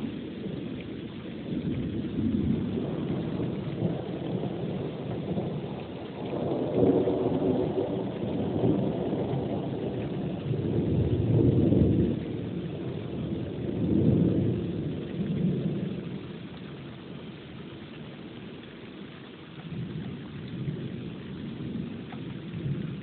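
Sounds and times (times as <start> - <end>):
thunder rumbling: 0.0 - 17.2, 19.6 - 23.0
steady rain: 0.0 - 23.0.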